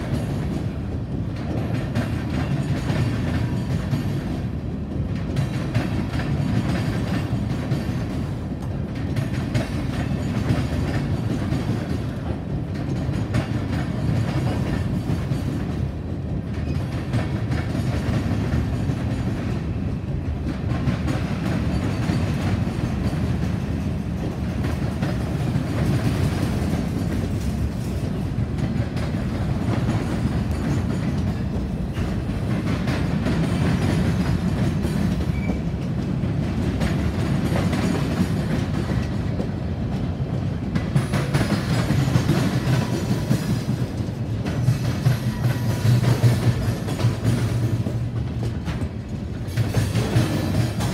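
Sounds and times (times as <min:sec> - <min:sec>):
freight train wheels rumbling: 0:00.0 - 0:50.9
wheels clacking over rail joints: 0:00.0 - 0:50.9.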